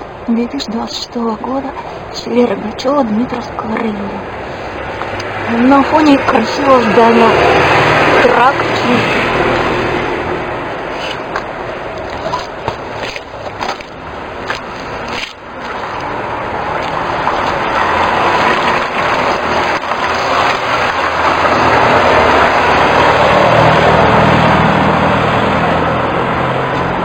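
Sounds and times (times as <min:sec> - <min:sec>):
motor vehicle passing: 0:01.5 - 0:27.0.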